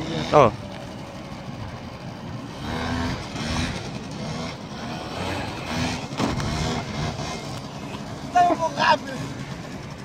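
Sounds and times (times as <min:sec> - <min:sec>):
scooter engine revving: 0:00.0 - 0:10.0.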